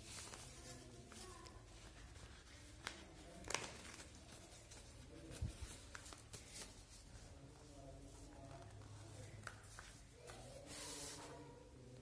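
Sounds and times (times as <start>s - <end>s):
paper rustling and crinkling: 0.0s - 11.5s.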